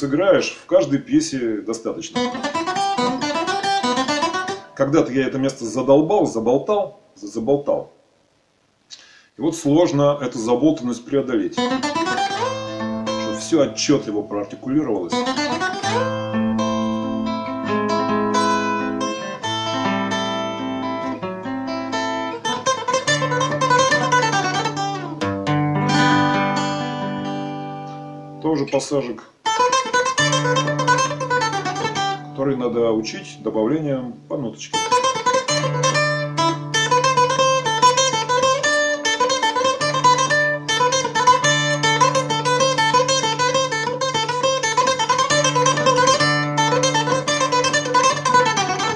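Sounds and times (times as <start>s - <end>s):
fingerstyle guitar: 0.0s - 7.7s, 8.9s - 48.9s.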